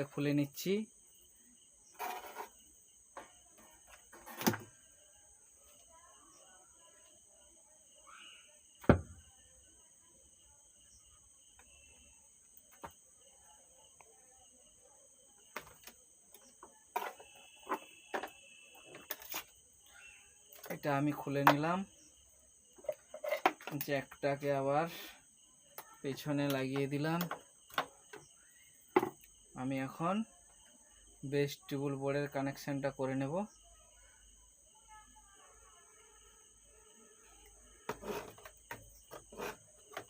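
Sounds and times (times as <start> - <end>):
insect chirring: 0.0 - 40.0.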